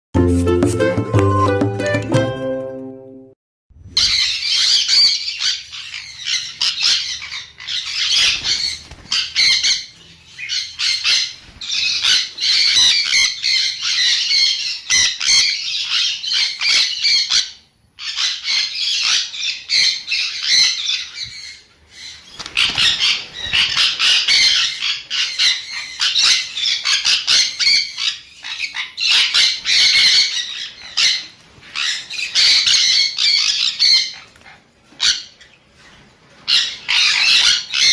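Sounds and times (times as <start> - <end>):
parrot screeching: 4.0 - 34.3, 35.0 - 35.5, 36.4 - 37.9.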